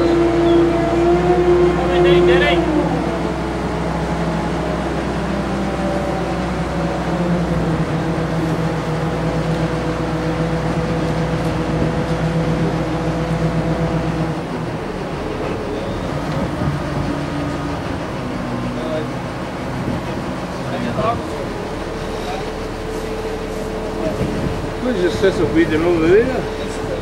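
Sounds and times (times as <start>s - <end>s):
crane engine droning: 0.0s - 27.0s.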